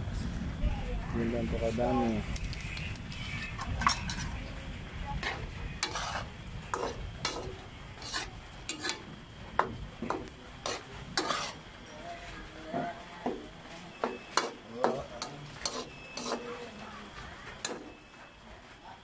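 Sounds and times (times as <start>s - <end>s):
sizzling bubbling sauce: 1.6s - 19.0s
utensil scraping a wok: 2.3s - 18.1s.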